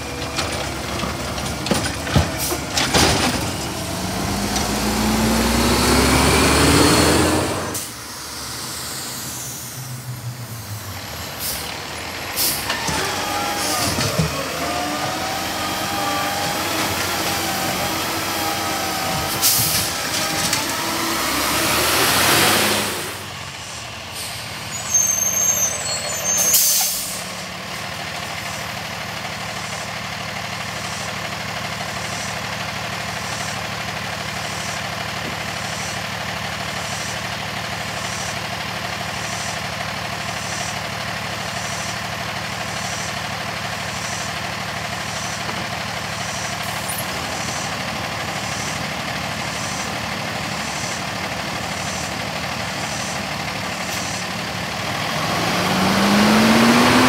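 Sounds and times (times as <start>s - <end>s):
diesel truck engine idling: 0.0s - 57.0s
truck engine revving: 0.0s - 57.0s.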